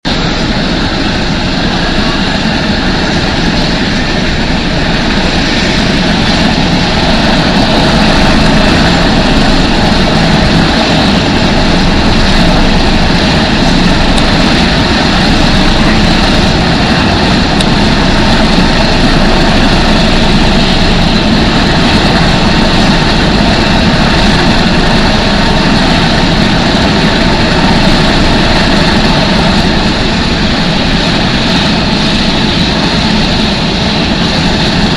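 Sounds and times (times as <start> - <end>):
propeller engine drone: 0.0 - 34.9.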